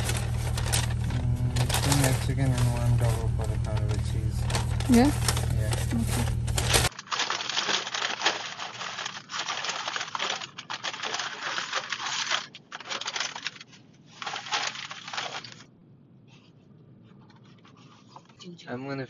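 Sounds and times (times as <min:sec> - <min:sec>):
paper bag crinkling: 0:00.0 - 0:15.7.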